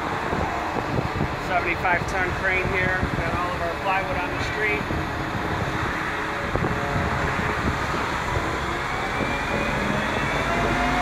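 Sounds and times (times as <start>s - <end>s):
crane diesel engine running: 0.0s - 11.0s
street traffic noise: 0.0s - 11.0s.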